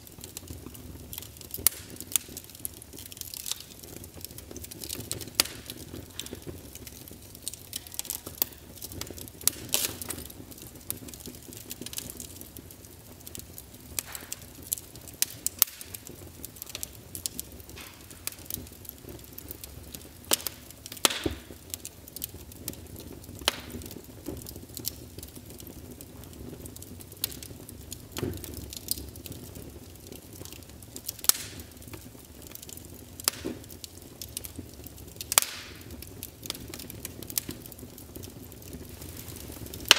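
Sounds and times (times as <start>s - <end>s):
sharp crackles and pops: 0.0s - 39.9s.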